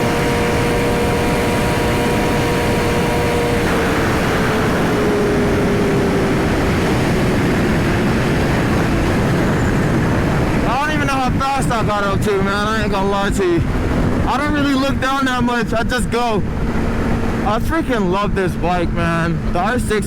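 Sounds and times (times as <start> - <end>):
motorcycle engine at speed: 0.0 - 20.0
wind rush: 0.0 - 20.0.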